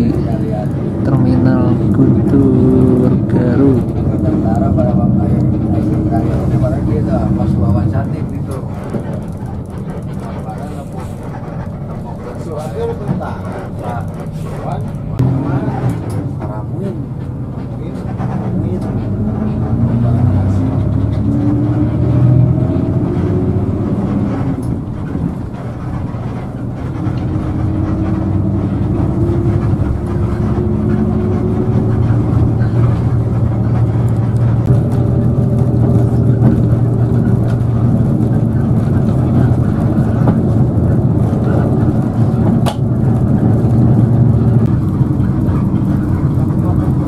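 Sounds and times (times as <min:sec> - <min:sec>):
bus engine and road noise: 0:00.0 - 0:47.0.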